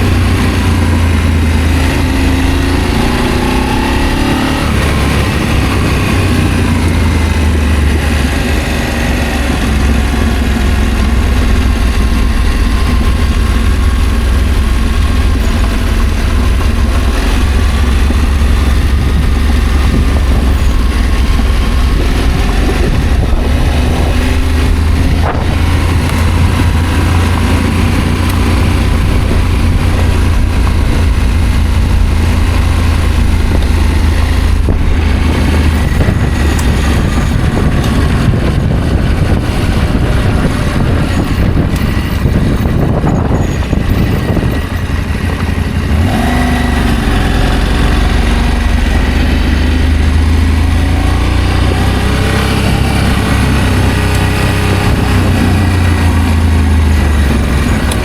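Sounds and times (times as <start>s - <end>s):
motorcycle engine rumbling: 0.0s - 58.0s
wind rushing noise: 0.0s - 58.0s.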